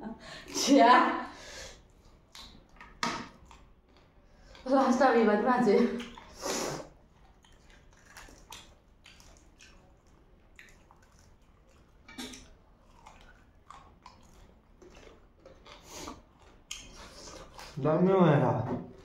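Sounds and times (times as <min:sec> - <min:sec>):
people chewing food: 0:00.4 - 0:19.0.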